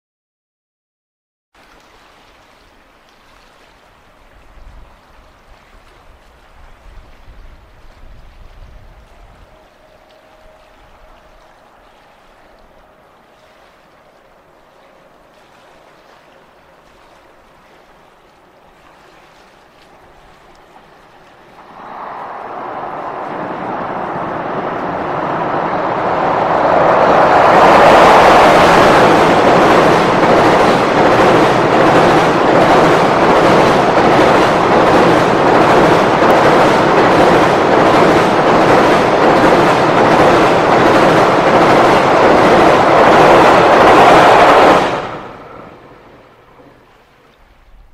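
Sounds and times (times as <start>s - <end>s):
train roaring over bridge: 6.6s - 47.7s.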